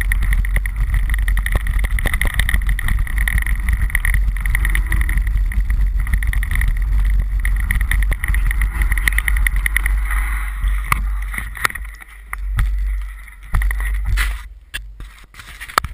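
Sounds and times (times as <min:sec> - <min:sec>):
bike rattling over rough ground: 0:00.0 - 0:15.9
steady high buzz: 0:00.0 - 0:15.9
wind rumble on microphone: 0:00.0 - 0:15.9.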